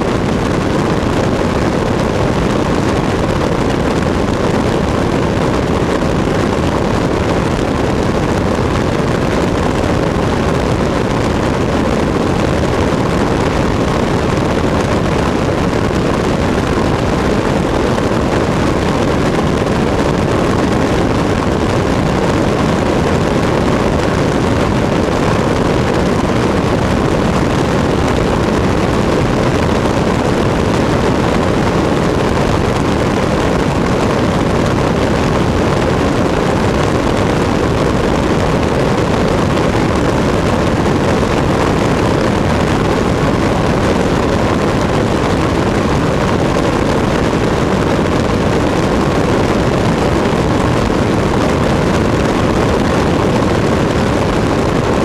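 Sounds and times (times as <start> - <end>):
airplane engine drone: 0.0 - 55.0
rush of airflow: 0.0 - 55.0.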